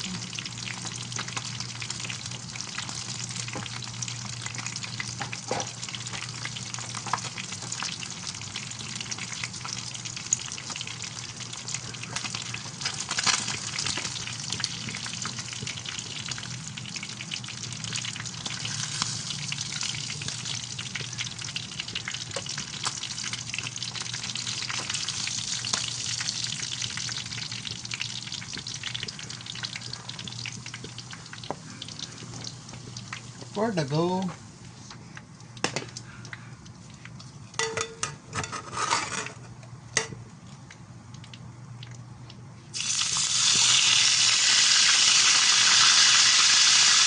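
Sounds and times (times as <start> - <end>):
fish frying in hot oil: 0.0 - 34.3, 42.7 - 47.0
low steady hum: 0.0 - 47.0.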